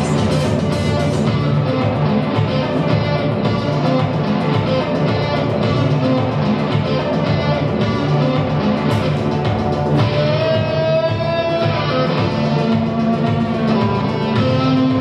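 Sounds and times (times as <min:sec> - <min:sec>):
electric guitar: 0:00.0 - 0:15.0
electronic backing with bass and beat: 0:00.0 - 0:15.0.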